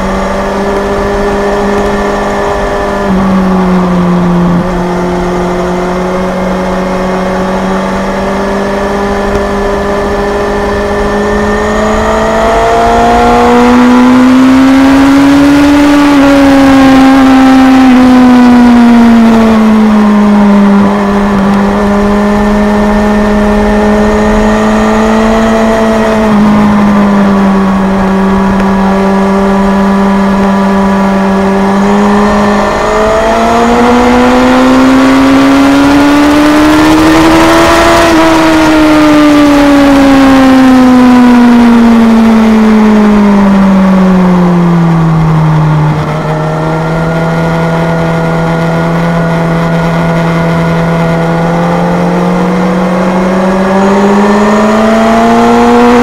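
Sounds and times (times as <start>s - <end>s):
motorcycle engine at high revs: 0.0s - 56.0s
wind noise: 0.0s - 56.0s.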